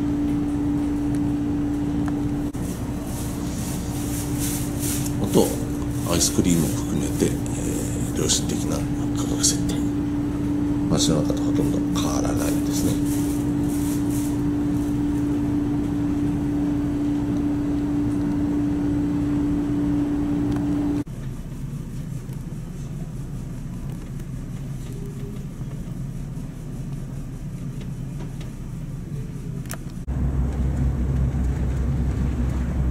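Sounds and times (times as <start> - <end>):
ship engine hum: 0.0 - 32.9.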